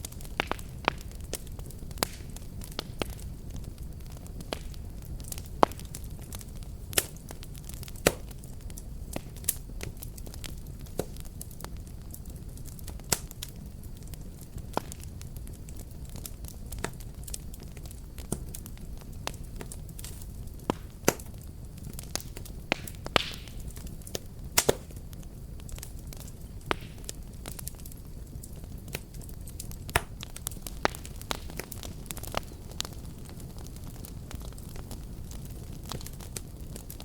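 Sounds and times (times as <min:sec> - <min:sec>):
fire crackling and popping: 0:00.0 - 0:37.0.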